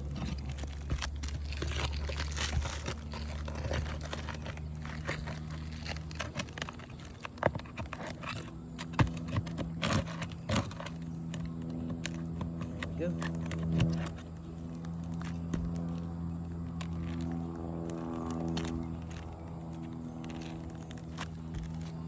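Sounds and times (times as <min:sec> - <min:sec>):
scraping and crunching of shingles: 0:00.0 - 0:22.0
steady low hum: 0:00.0 - 0:22.0.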